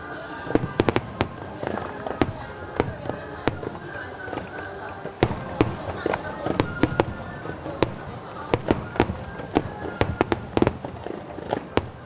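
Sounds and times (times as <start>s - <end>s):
continuous background noise: 0.0s - 12.0s
fireworks bangs: 0.5s - 12.0s.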